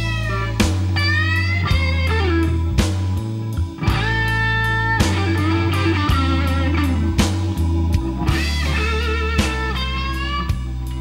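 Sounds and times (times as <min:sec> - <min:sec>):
bass and drum beat: 0:00.0 - 0:11.0
electric guitar bending notes: 0:00.0 - 0:11.0.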